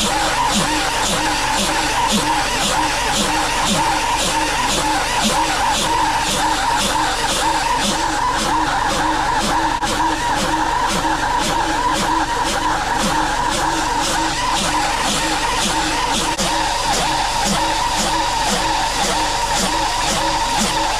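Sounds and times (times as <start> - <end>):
rhythmic machinery clatter: 0.0 - 20.9.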